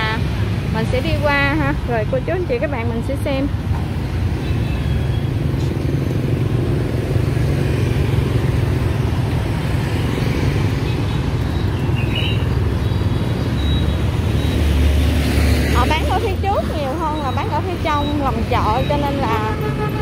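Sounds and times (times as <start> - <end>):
cars passing: 0.0 - 20.0
motorbikes passing: 0.0 - 20.0.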